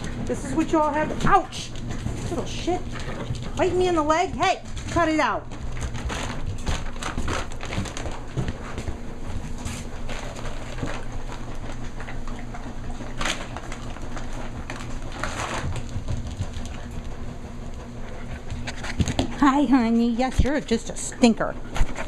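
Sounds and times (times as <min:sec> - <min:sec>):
puppies scuffling and playing: 0:00.0 - 0:22.0
washing machine hum: 0:00.0 - 0:22.0.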